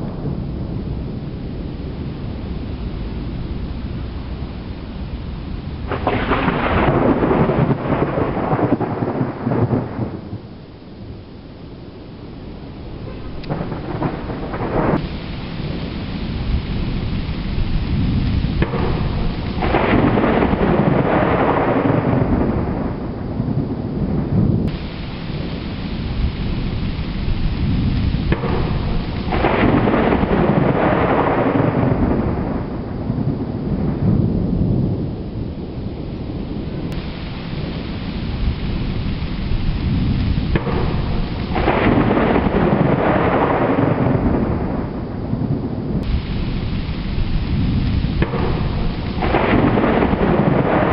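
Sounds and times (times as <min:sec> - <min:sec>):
steady rain: 0:00.0 - 0:50.9
thunder rolling: 0:00.0 - 0:50.9.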